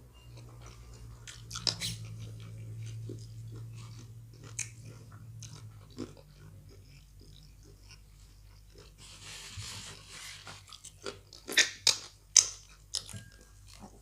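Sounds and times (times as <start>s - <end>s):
low steady hum: 0.0s - 14.0s
person chewing and smacking: 0.3s - 9.0s, 10.6s - 14.0s.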